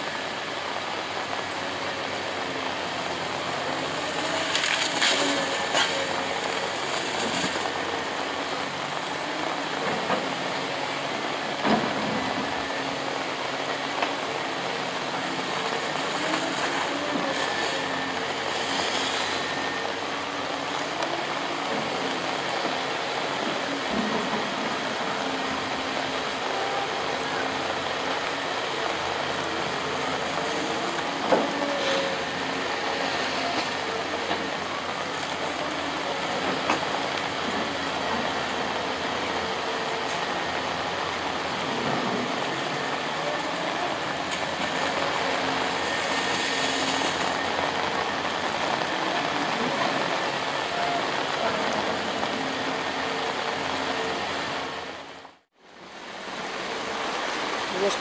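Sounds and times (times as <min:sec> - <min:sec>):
constant hiss: 0:00.0 - 0:58.0
vehicle engine hum: 0:00.0 - 0:58.0.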